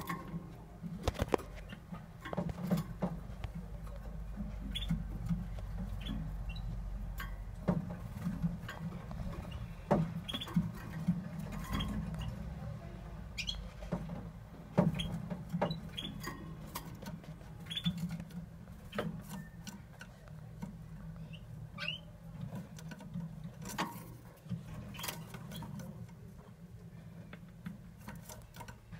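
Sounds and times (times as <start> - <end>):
canary chirping: 0.0 - 28.9.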